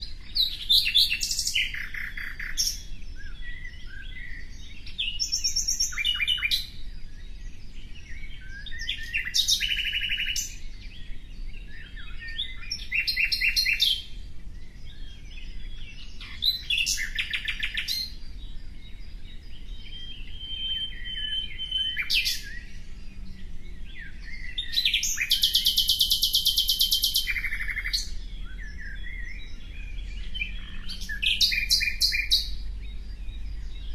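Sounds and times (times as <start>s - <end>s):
songbird buzzy trills: 0.0s - 33.9s.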